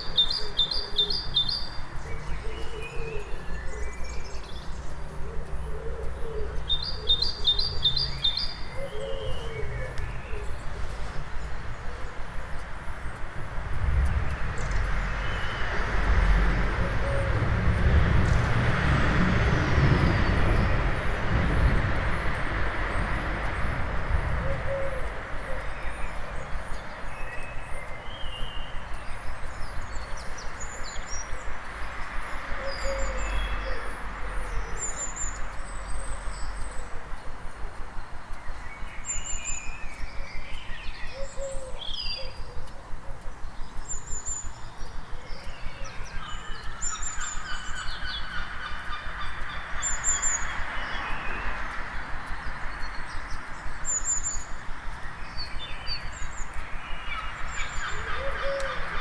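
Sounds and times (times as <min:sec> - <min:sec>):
vehicle rumble passing: 0:00.0 - 0:38.9, 0:43.6 - 0:59.0
birds singing: 0:00.0 - 0:59.0
town traffic hum: 0:00.0 - 0:59.0.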